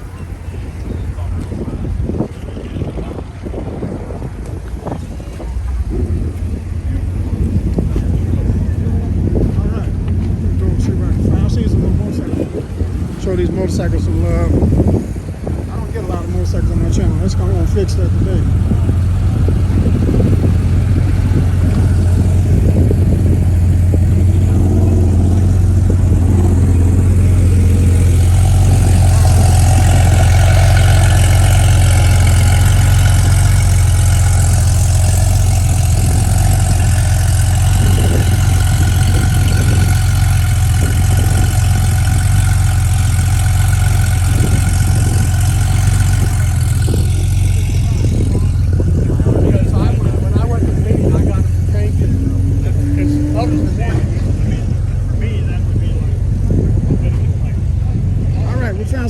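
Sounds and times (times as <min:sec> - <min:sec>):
higher engine note: 0:00.0 - 0:59.0
vehicle engine idling: 0:00.0 - 0:59.0.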